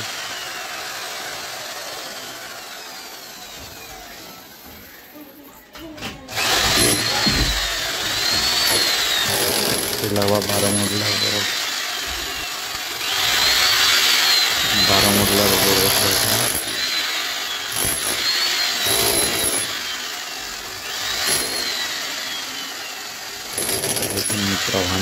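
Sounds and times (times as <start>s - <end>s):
angle grinder cutting brick: 0.0s - 4.7s, 6.3s - 25.0s.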